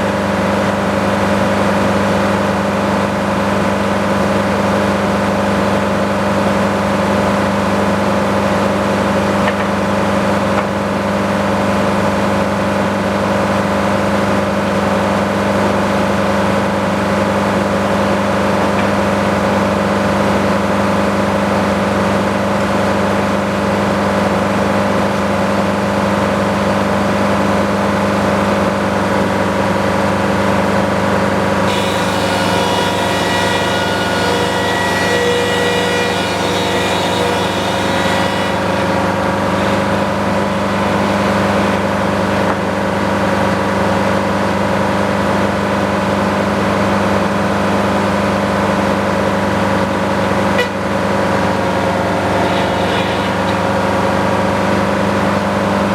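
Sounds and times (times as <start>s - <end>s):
sawmill engine drone: 0.0s - 55.9s.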